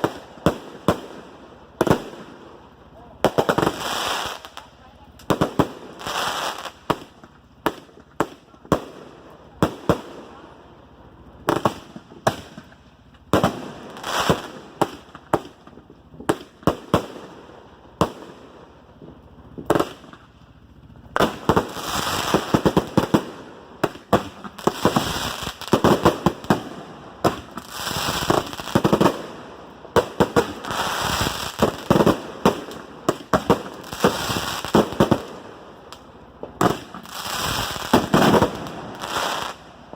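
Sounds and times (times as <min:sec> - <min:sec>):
fireworks popping and crackling: 0:00.0 - 0:39.9.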